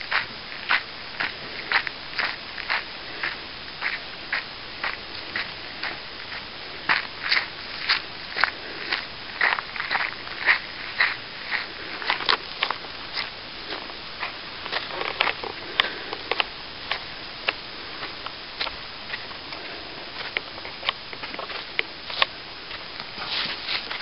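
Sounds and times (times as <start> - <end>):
footsteps on dirt and leaves: 0.0 - 24.0.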